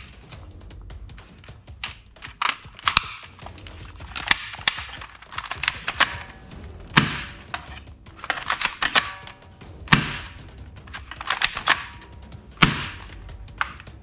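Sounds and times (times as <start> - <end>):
plastic parts clicking and knocking: 0.0 - 0.5, 1.1 - 14.0
heavy plastic thunks: 1.1 - 14.0.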